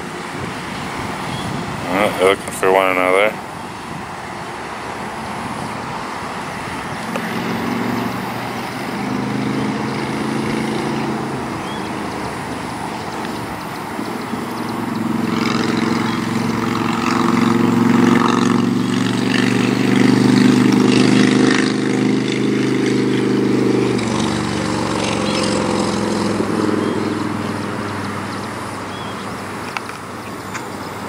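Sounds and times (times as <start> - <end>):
motor engine passing: 0.0 - 31.0.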